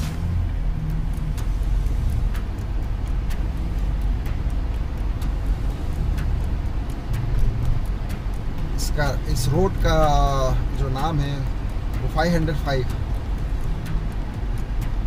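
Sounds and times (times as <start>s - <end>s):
car engine and road rumble: 0.0s - 15.0s
light ticking: 0.0s - 15.0s.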